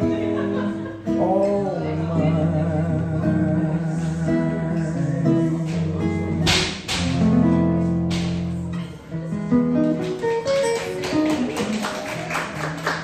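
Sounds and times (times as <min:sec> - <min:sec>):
acoustic guitar playing jazz chords: 0:00.0 - 0:12.0.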